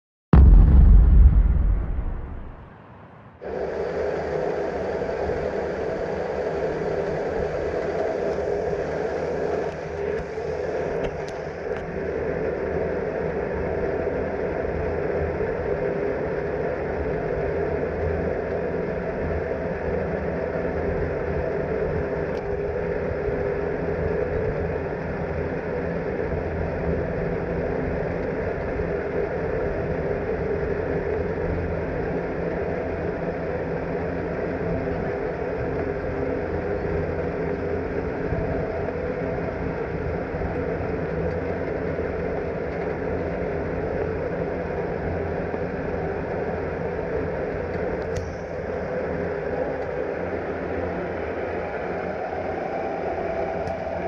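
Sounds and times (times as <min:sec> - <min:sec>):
cable car rumbling hum: 0:00.4 - 0:54.0.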